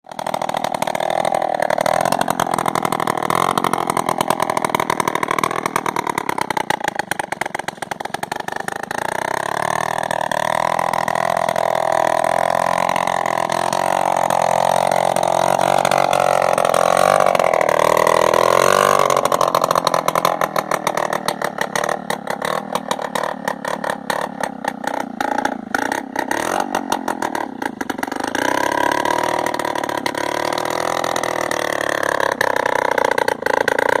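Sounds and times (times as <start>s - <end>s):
small motorcycle engine running: 0.0s - 34.0s.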